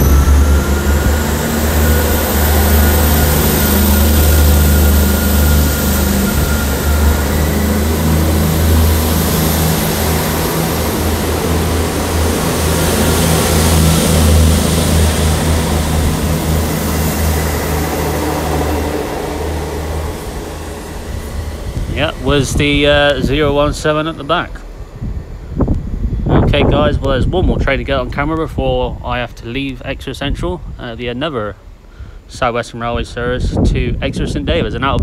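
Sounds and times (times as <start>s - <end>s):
diesel train engines running: 0.0s - 35.0s.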